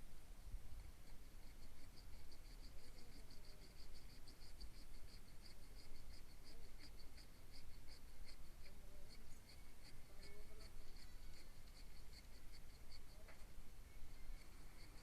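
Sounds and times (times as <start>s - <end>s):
low background hum: 0.0s - 15.0s
cricket chirping: 0.8s - 15.0s.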